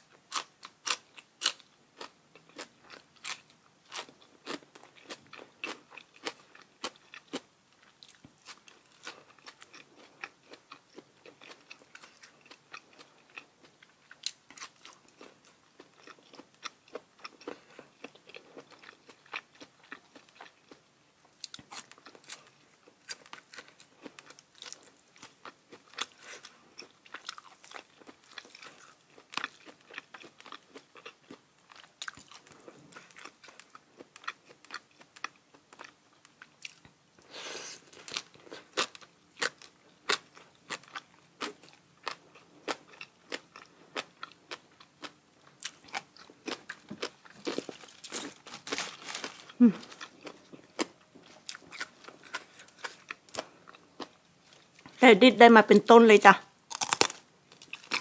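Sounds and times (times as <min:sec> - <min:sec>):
person chewing crisp food: 0:00.0 - 0:55.0, 0:56.6 - 0:58.0.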